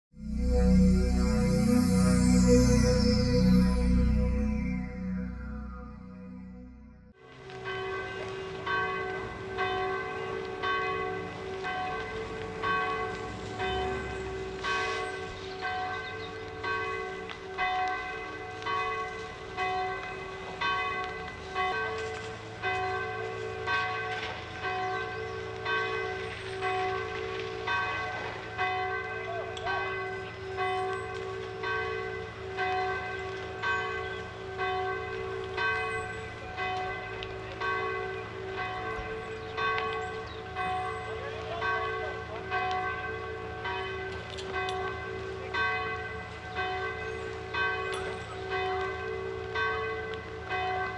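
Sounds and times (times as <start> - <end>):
church bells ringing: 0.2 - 50.9.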